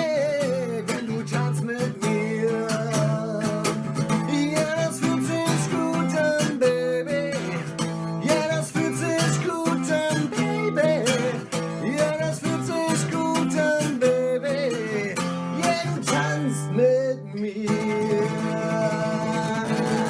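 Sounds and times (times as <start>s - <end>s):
guitar-led pop song: 0.0s - 20.0s.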